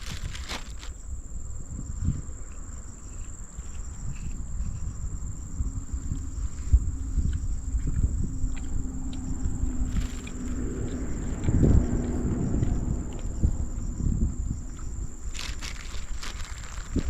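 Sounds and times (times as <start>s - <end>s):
insects droning: 0.0s - 17.0s
low uneven rumble: 1.0s - 17.0s.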